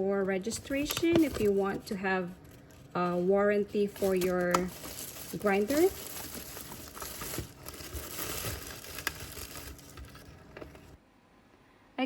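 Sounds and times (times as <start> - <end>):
paper and packaging rustling: 0.3 - 11.0.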